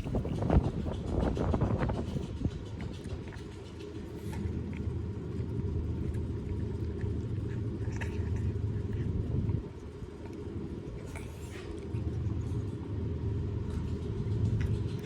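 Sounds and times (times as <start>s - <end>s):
faint crunching clicks: 0.0s - 12.9s, 13.6s - 15.0s
cat chewing on a bone: 0.0s - 15.0s
low rumble: 0.0s - 15.0s.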